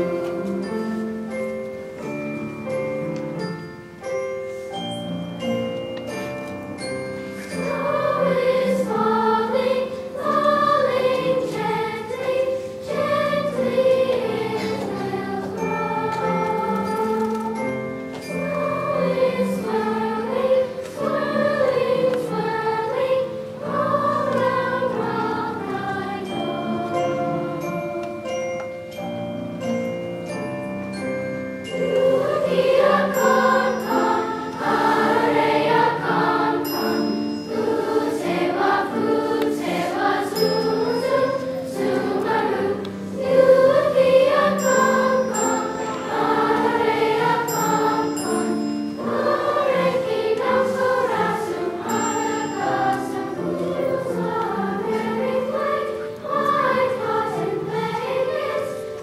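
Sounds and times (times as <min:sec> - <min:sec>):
children's choir singing: 0:00.0 - 0:59.0
upright piano: 0:00.0 - 0:59.0.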